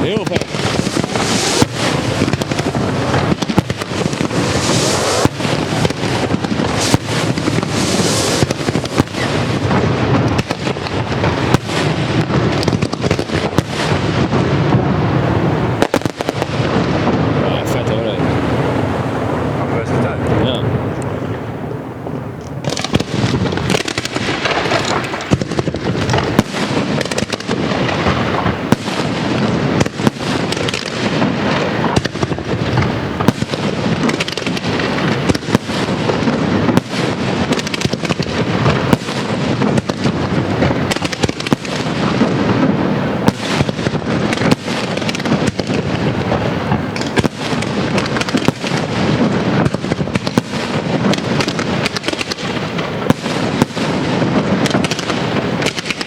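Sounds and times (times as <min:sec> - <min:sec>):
fireworks barrage of bangs: 0:00.0 - 0:56.0
fireworks crackle: 0:00.0 - 0:56.0.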